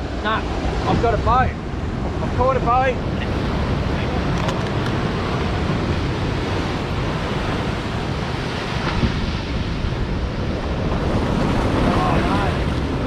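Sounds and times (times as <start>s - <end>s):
surf breaking against rocks: 0.0s - 13.0s
wind buffeting microphone: 0.0s - 13.0s.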